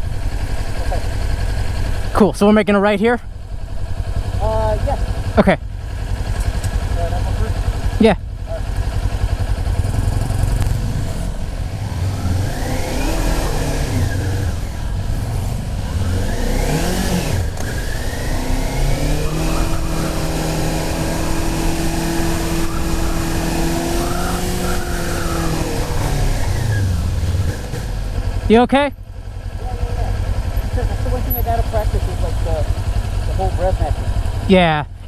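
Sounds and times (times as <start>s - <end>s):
motorcycle engine changing gears: 0.0s - 35.0s.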